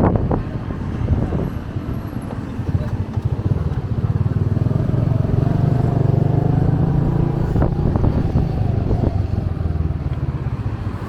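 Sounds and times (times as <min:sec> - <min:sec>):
small motorbike engine: 0:02.0 - 0:11.0.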